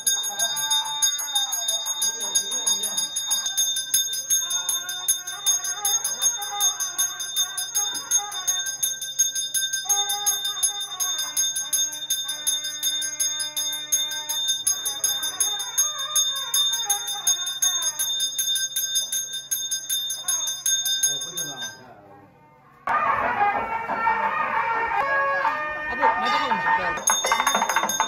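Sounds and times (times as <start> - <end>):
temple bell ringing rapidly: 0.0 - 21.8, 26.9 - 28.0.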